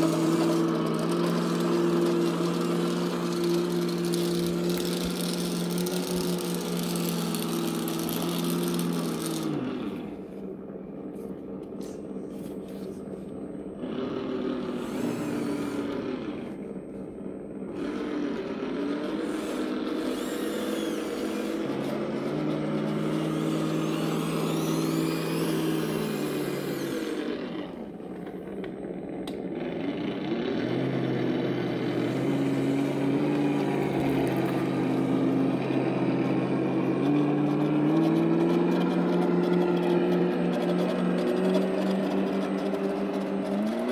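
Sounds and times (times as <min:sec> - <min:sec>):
electric motor whirring: 0:00.0 - 0:10.6, 0:11.4 - 0:43.9
simulated diesel engine from speaker: 0:00.0 - 0:43.9.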